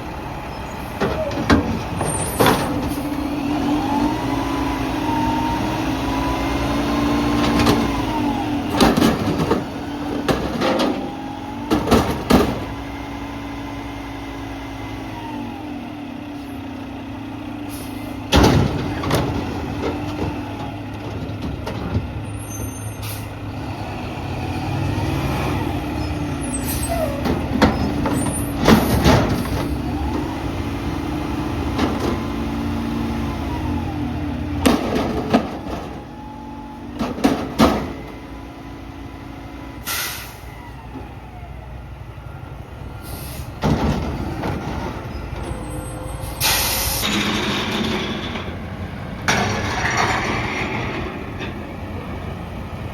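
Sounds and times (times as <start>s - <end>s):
garbage truck engine running: 0.0s - 52.9s.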